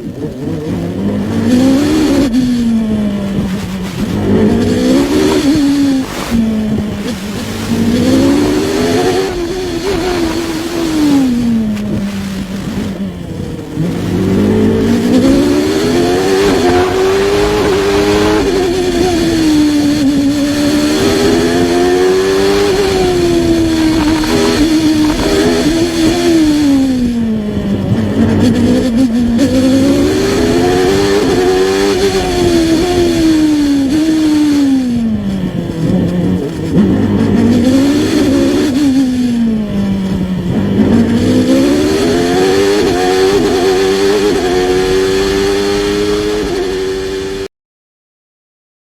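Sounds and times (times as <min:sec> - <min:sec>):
racing car engine revving: 0:00.0 - 0:47.5.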